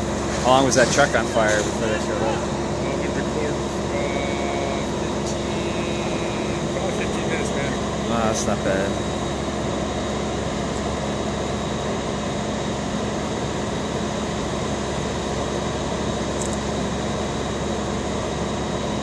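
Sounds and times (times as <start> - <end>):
engines droning: 0.0 - 16.6.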